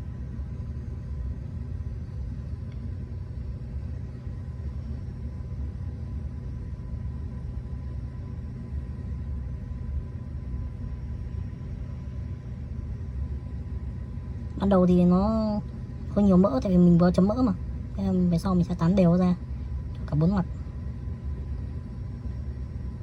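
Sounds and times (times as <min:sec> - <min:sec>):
faint constant hum: 0:00.0 - 0:23.0
low background rumble: 0:00.0 - 0:23.0.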